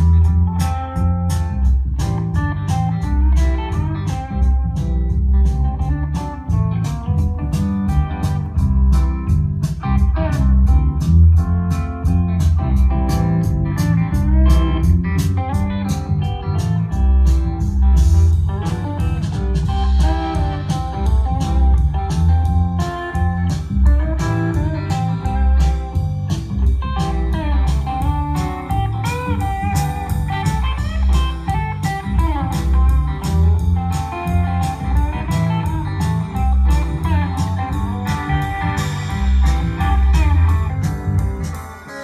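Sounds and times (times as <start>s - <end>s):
blues guitar music over loudspeakers: 0.0s - 42.0s.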